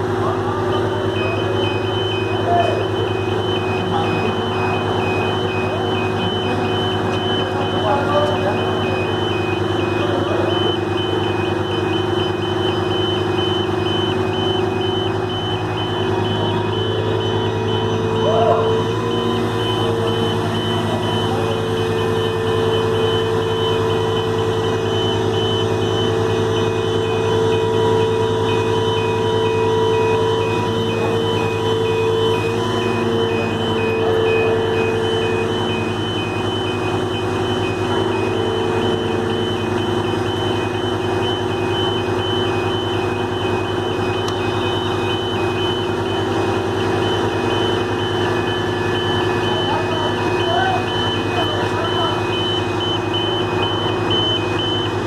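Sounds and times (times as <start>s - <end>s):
electronic alarm beeping: 0.0s - 55.0s
truck diesel engine running: 0.0s - 55.0s.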